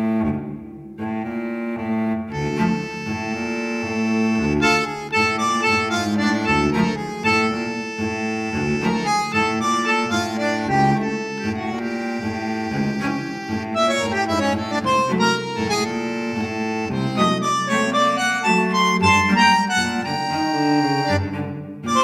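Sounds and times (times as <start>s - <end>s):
reed instrument melody over drone: 2.4s - 21.2s.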